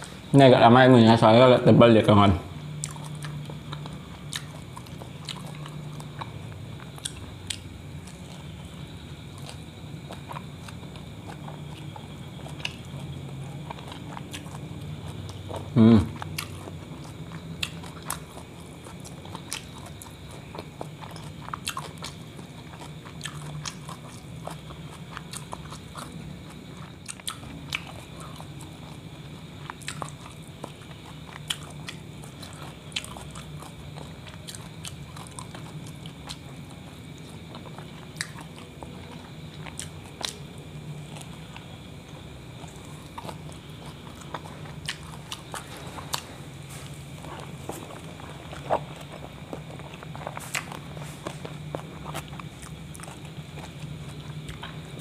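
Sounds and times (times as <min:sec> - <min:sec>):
person chewing: 0:02.7 - 0:55.0.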